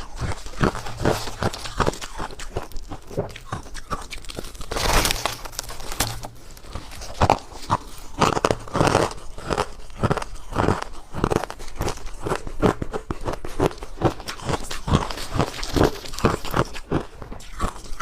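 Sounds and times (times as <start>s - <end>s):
ice crunching while chewed: 0.0s - 18.0s.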